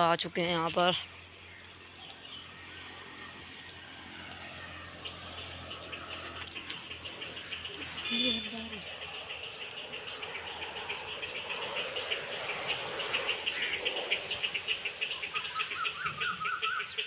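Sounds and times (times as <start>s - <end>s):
crickets chirping: 0.0s - 17.0s
short wavering insect call: 1.0s - 17.0s.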